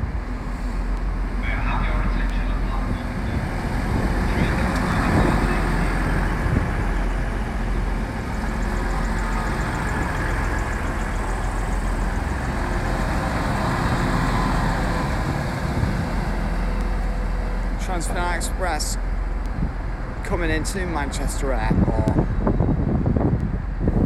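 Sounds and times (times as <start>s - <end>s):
train engine idling: 0.0s - 23.9s.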